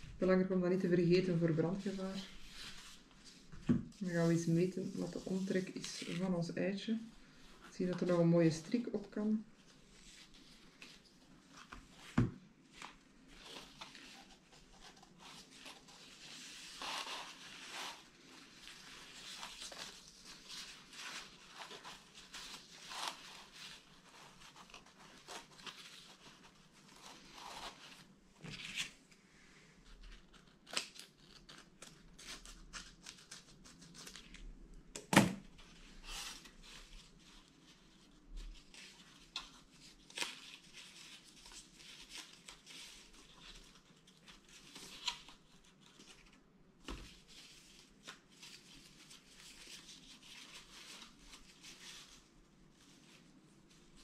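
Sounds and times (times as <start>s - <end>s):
ribbon rustling and sliding: 0.9s - 34.5s, 35.4s - 54.0s.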